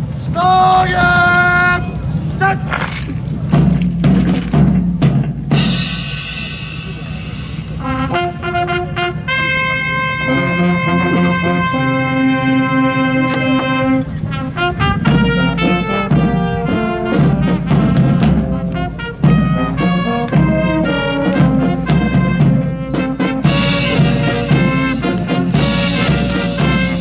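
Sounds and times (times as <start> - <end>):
brass band swing music: 0.8 - 27.0.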